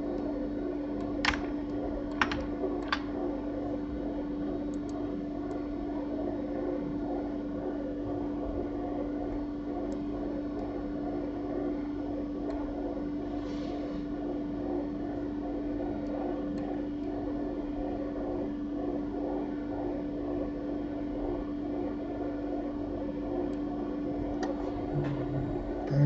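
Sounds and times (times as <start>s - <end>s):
computer fan hum: 0.0s - 26.0s.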